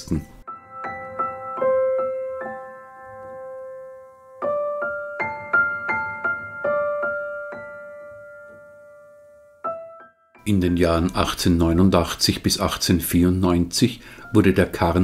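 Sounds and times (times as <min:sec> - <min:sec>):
slow piano notes: 0:00.0 - 0:12.4.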